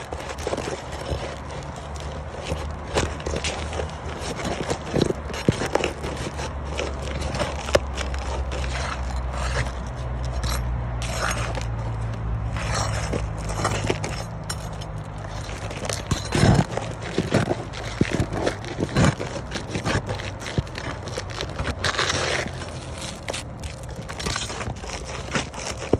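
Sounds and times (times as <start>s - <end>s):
scraping and crunching: 0.0s - 25.9s.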